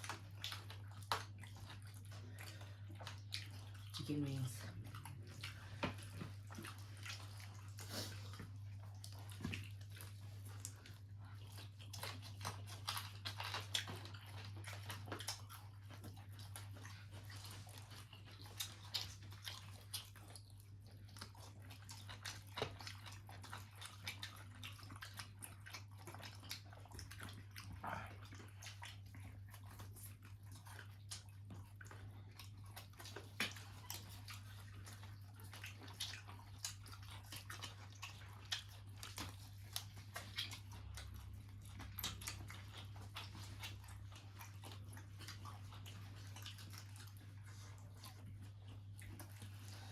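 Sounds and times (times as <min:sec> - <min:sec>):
chewing and biting fried chicken: 0:00.0 - 0:49.9.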